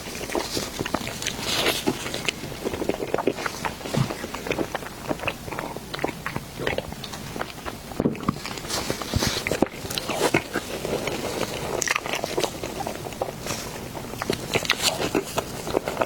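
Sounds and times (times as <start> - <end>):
person chewing soft food: 0.0 - 16.0.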